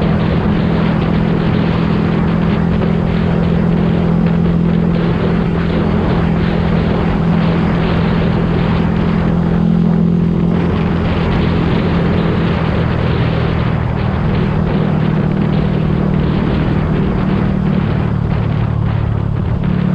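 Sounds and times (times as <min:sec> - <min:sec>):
motorcycle engine running steadily: 0:00.0 - 0:19.9.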